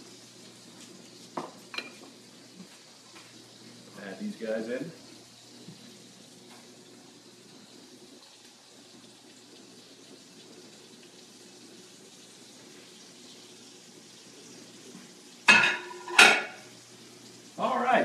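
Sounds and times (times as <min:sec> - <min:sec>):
burgers sizzling in a frying pan: 0:00.0 - 0:18.0.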